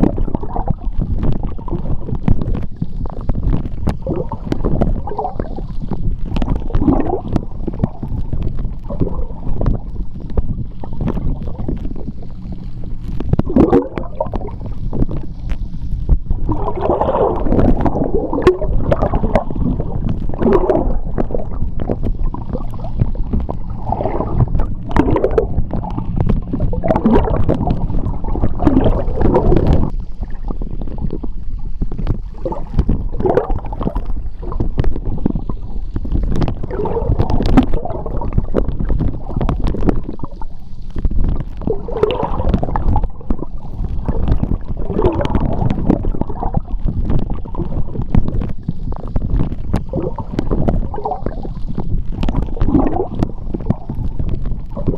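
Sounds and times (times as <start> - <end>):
faint underwater clicks: 0.0 - 54.9
underwater low rumble: 0.0 - 54.9
water gurgling and bubbling: 0.0 - 54.9.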